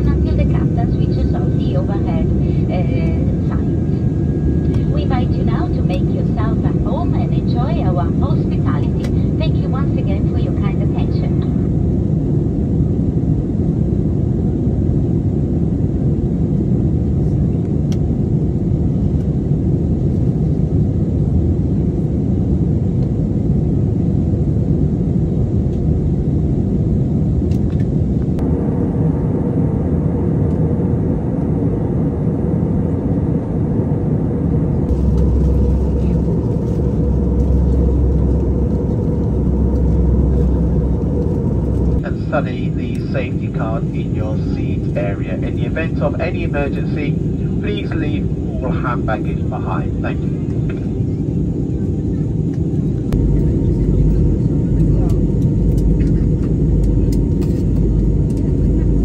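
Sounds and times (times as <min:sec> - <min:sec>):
airplane cabin airflow and engine: 0:00.0 - 0:59.0
deep low hum: 0:00.0 - 0:59.0.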